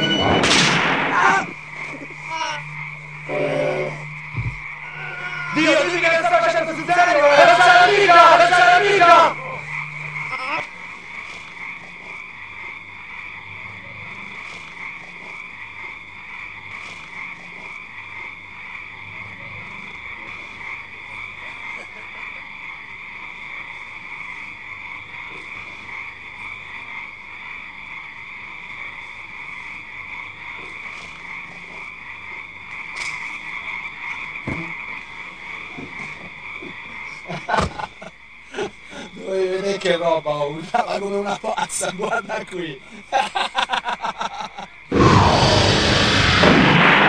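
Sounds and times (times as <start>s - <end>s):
faint low hum: 0.0s - 47.0s
frogs calling: 0.0s - 47.0s.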